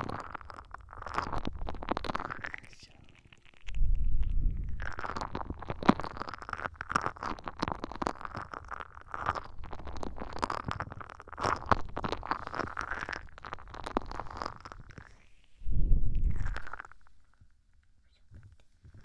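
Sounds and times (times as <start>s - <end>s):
scratching and tapping on microphone: 0.0s - 15.2s, 16.1s - 19.0s.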